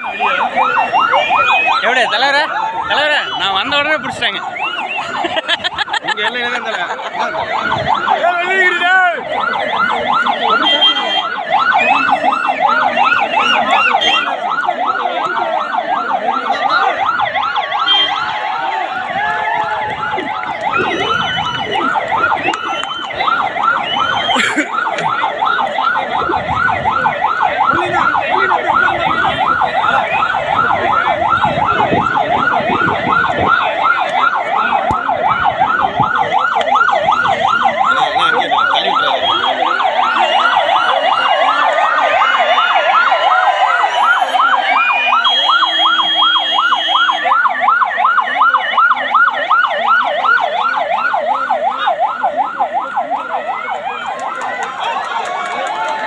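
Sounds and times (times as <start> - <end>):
crowd voices shouting: 0.0 - 56.0
vehicle siren fast yelp: 0.0 - 56.0.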